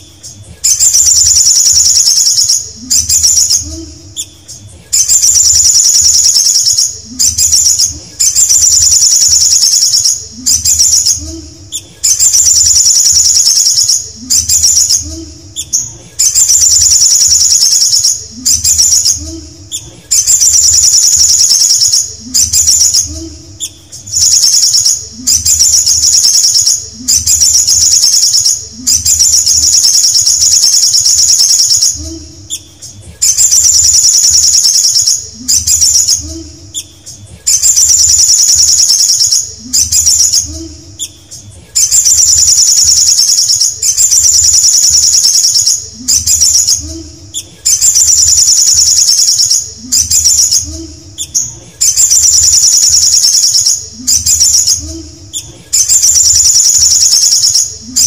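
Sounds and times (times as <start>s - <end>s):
bird singing high fast trills: 0.0s - 4.4s, 5.0s - 58.0s.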